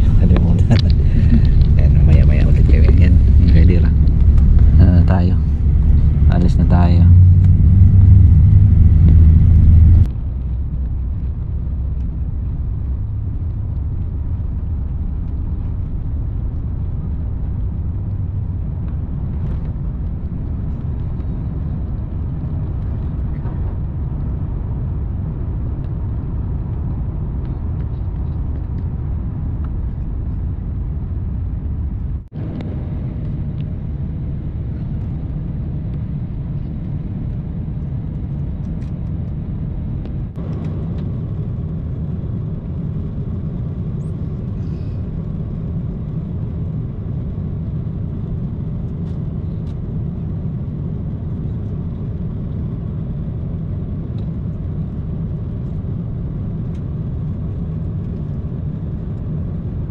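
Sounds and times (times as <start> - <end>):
jet airliner cabin rumble: 0.0 - 59.9.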